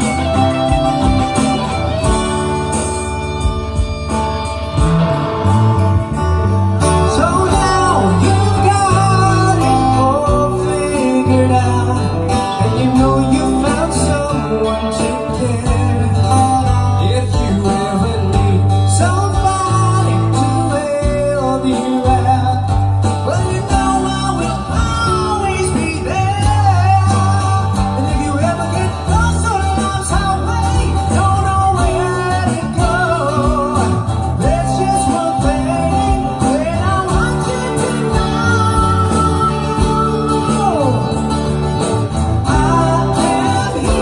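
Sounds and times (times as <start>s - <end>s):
acoustic guitar: 0.0s - 44.0s
drum kit: 0.0s - 44.0s
electric bass: 0.0s - 44.0s
electric guitar: 0.0s - 44.0s.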